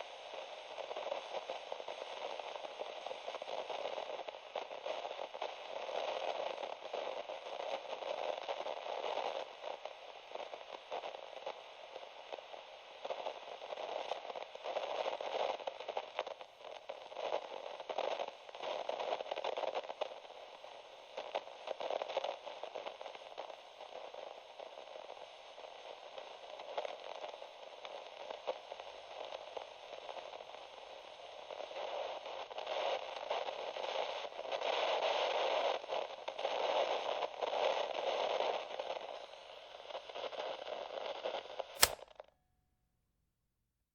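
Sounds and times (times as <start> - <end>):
radio static crackling hiss: 0.0 - 42.0.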